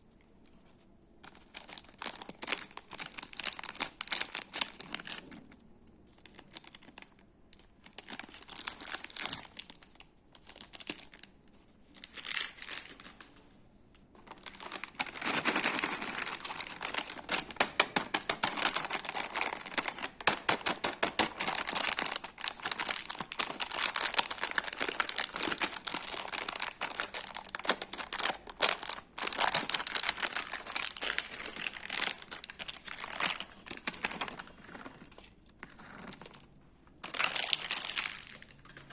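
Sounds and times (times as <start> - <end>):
snack wrapper crinkling: 1.2 - 5.4, 6.2 - 11.3, 12.0 - 13.2, 14.2 - 36.4, 37.0 - 38.9.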